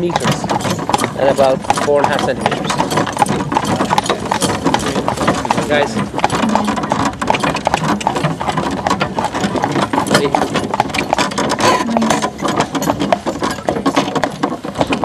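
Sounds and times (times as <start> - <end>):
hooves clattering on gravel: 0.0 - 15.0
rattling tack: 0.0 - 15.0.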